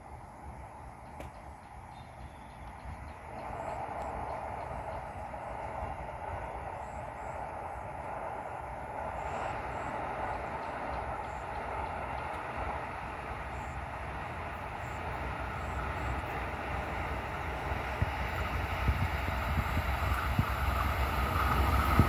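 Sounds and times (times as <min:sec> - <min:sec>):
locomotive engine and wheels: 0:00.0 - 0:22.0.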